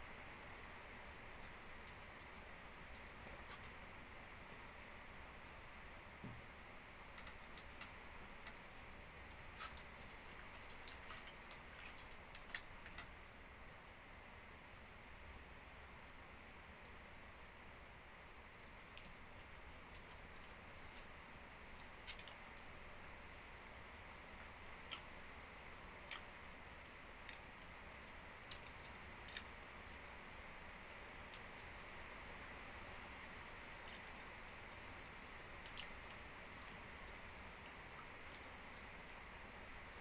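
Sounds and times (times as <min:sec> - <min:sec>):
quiet background hiss: 0:00.0 - 0:40.0.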